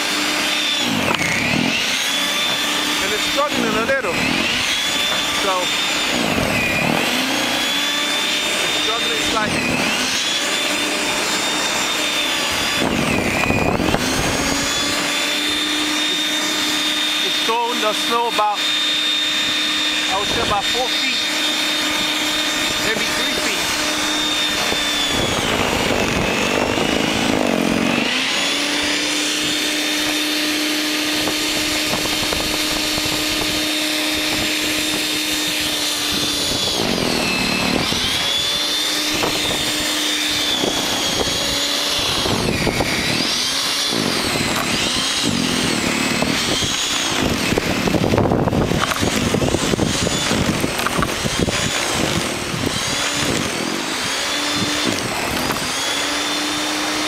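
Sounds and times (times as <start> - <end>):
snow thrower motor whine: 0.0 - 57.0.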